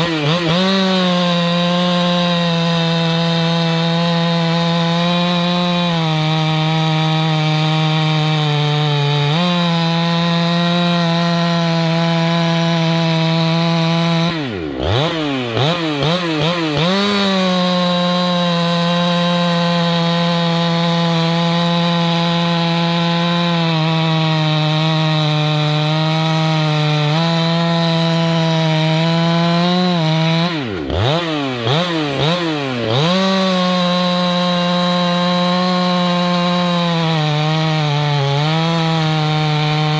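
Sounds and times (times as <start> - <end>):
chainsaw engine at high revs: 0.0 - 39.9.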